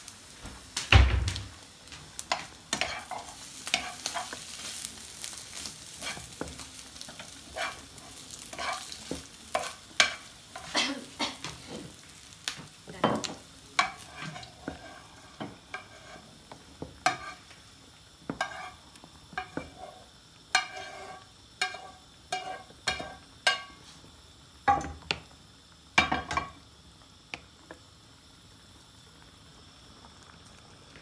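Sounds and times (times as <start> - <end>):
faint simmering: 0.0 - 31.0.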